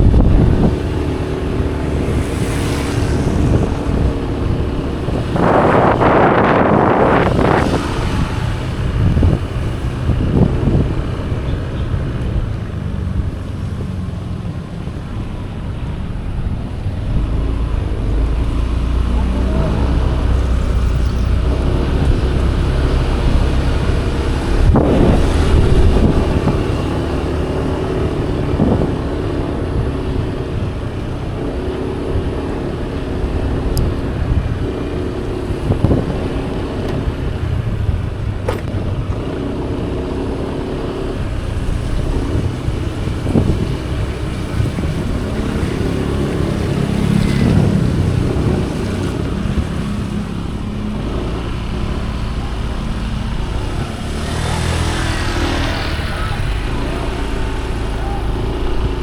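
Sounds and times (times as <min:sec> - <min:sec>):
motorcycle engine running: 0:00.0 - 0:59.0
wind rumbling on microphone: 0:00.0 - 0:59.0.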